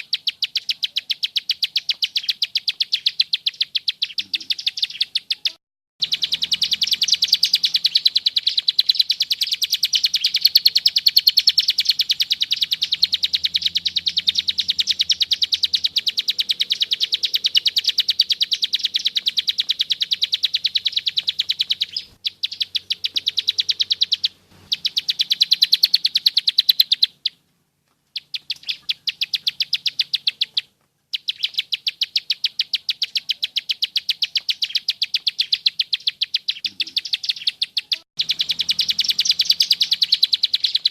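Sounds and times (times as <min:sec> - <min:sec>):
bird rattling trill: 0:00.0 - 0:27.4, 0:28.1 - 0:40.9.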